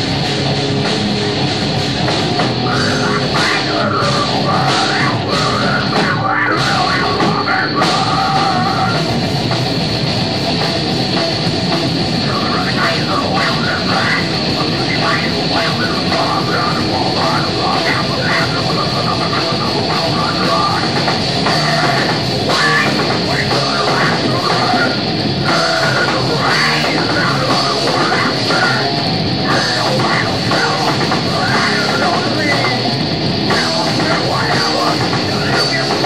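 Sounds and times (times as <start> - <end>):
heavy metal band playing: 0.0 - 36.0
person singing into a microphone: 2.6 - 9.2, 12.2 - 36.0.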